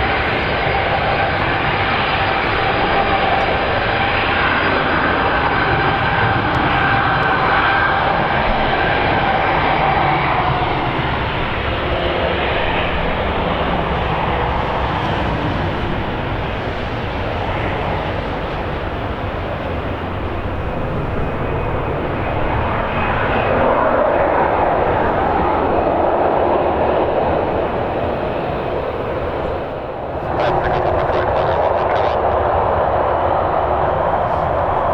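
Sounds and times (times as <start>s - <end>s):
airliner engines running: 0.0s - 34.9s
wind rumbling on microphone: 0.0s - 34.9s.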